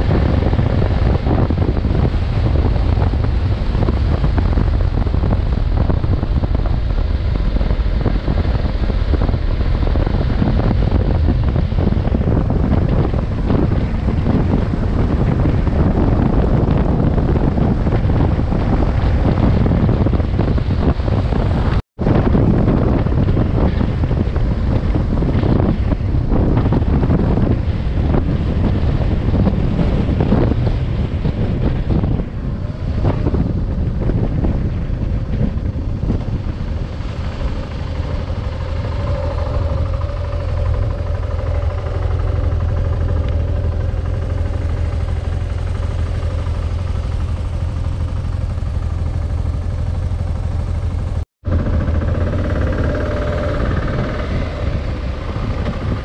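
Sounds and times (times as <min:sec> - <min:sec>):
motorcycle engine drone: 0:00.0 - 0:56.0
wind buffeting the microphone: 0:00.0 - 0:56.0.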